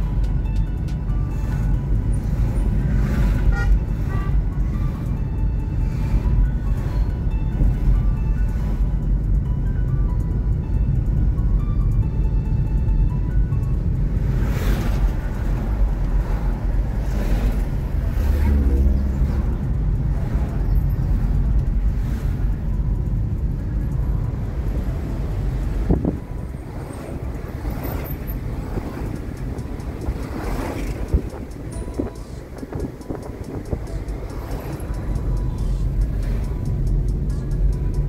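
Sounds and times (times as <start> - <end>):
car engine and tyre rumble: 0.0 - 38.0
truck passing: 0.0 - 38.0.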